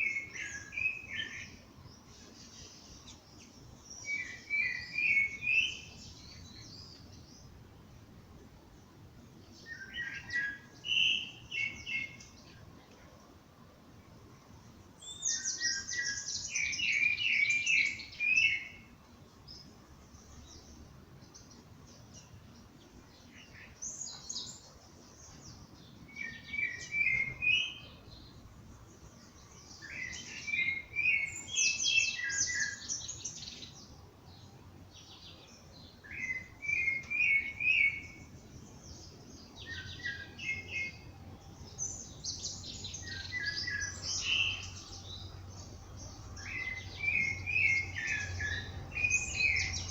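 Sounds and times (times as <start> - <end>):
songbirds chirping: 0.0 - 49.9.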